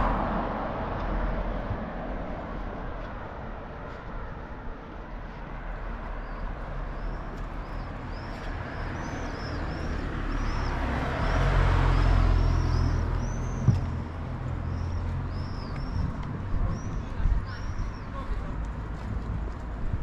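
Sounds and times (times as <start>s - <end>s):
vehicle passing by: 0.0s - 20.0s.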